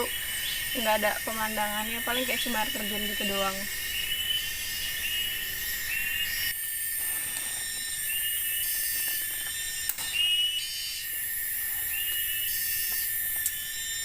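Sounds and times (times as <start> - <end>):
chorus of forest insects: 0.0 - 14.0.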